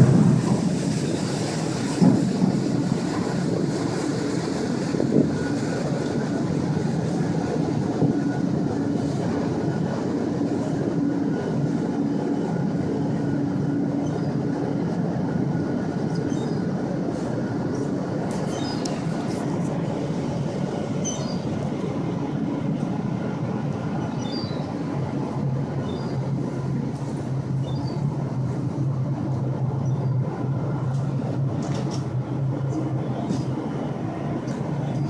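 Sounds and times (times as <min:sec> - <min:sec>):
ferry engines droning: 0:00.0 - 0:35.0.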